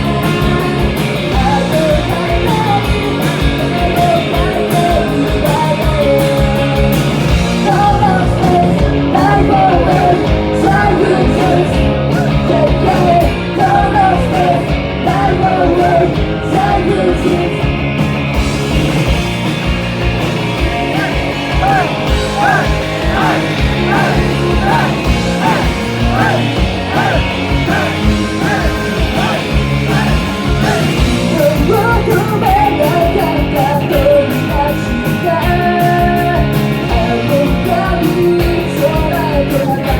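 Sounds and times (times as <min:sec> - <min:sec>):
person singing lead vocal: 0:00.0 - 0:17.7, 0:20.6 - 0:39.9
live rock band playing: 0:00.0 - 0:39.9.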